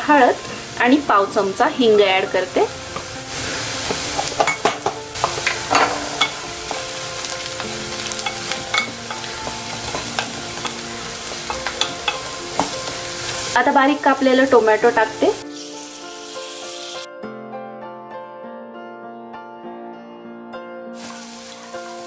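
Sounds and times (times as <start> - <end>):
onions sizzling in oil: 0.0 - 17.1, 21.0 - 22.0.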